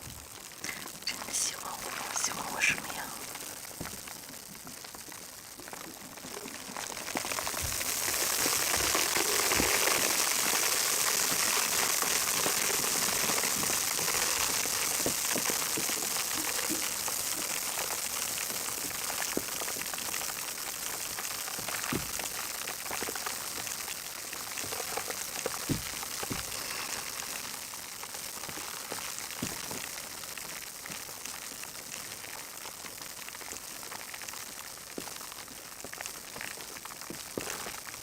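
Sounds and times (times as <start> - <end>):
food sizzling and crackling: 0.0 - 38.0.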